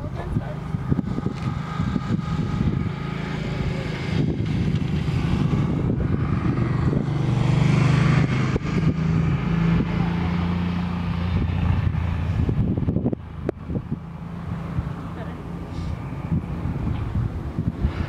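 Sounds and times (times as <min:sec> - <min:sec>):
vehicle engine drone: 0:00.0 - 0:18.0.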